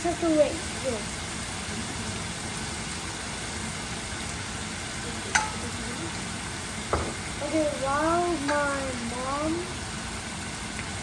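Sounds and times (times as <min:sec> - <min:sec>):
chicken sizzling as it fries: 0:00.0 - 0:11.0.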